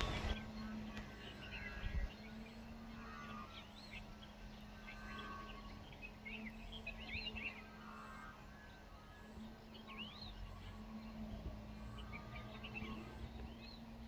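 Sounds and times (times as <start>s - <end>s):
low steady hum: 0.0s - 14.0s
small birds chirping: 0.0s - 14.0s.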